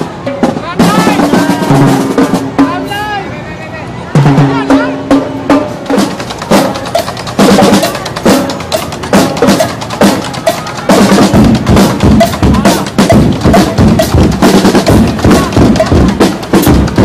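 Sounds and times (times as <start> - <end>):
snare drums: 0.0 - 3.1, 4.2 - 17.0
tenor drums: 0.0 - 3.4, 4.1 - 17.0.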